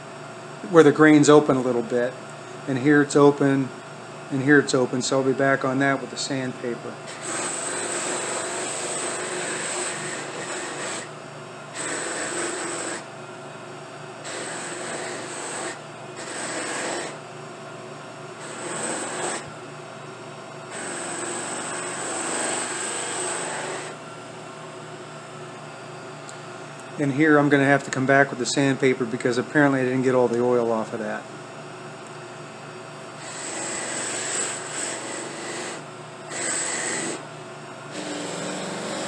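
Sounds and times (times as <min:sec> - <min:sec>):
steady motor hum: 0:00.0 - 0:39.0.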